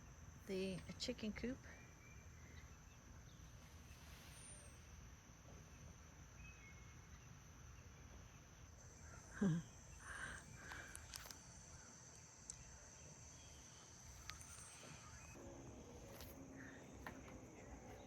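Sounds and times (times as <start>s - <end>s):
faint bird chirps: 0.0s - 15.4s
crickets droning: 0.0s - 18.0s.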